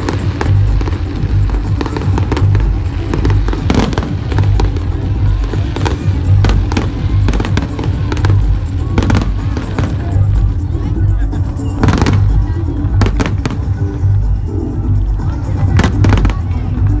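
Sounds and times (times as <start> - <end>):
fireworks cracking and banging: 0.0 - 17.0
music with bass beat: 0.0 - 17.0.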